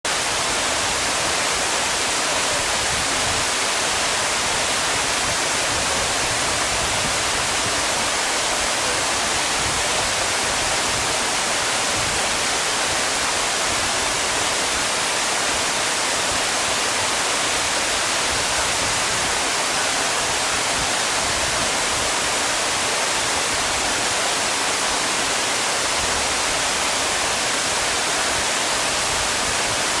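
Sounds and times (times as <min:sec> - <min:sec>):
stream water flowing: 0:00.1 - 0:30.0.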